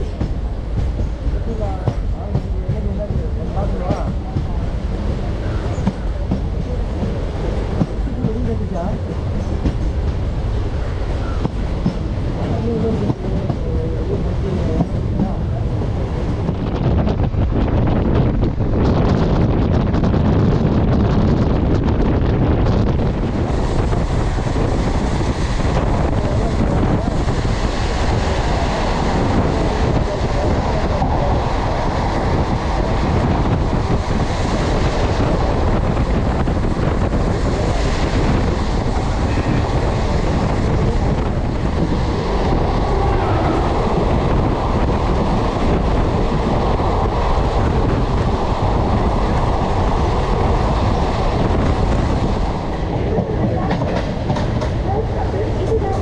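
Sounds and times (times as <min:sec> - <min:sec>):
train wheel and rail noise: 0:00.0 - 0:56.0
wind on microphone: 0:00.0 - 0:56.0.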